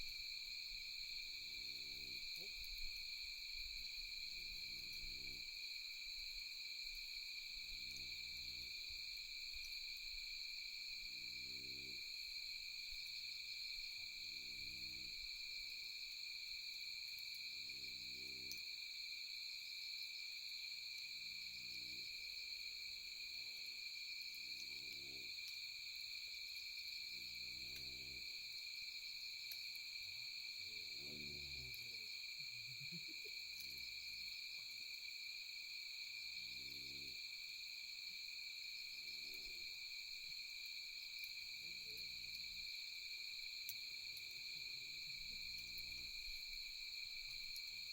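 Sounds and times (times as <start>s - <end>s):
insects trilling: 0.0s - 47.9s.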